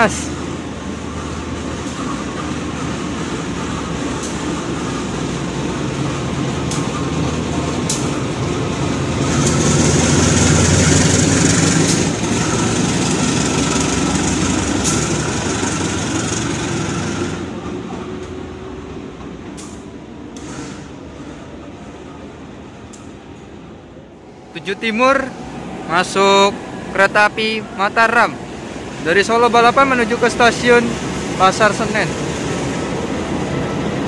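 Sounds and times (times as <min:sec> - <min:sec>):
diesel locomotive passing: 0:00.0 - 0:34.0.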